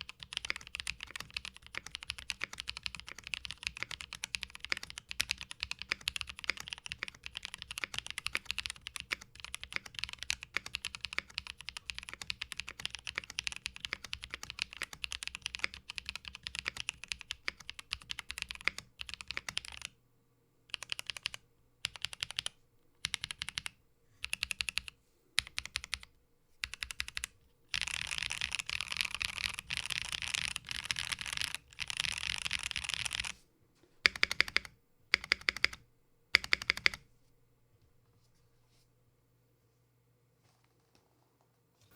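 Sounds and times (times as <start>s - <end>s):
typing on mechanical keyboard: 0.0s - 20.0s, 20.7s - 33.4s, 34.0s - 37.0s.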